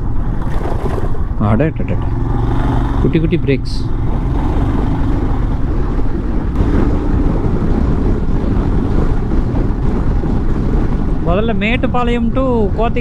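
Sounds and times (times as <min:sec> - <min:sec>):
motorcycle engine: 0:00.0 - 0:11.4
road noise: 0:00.0 - 0:13.0
wind buffeting microphone: 0:00.0 - 0:13.0.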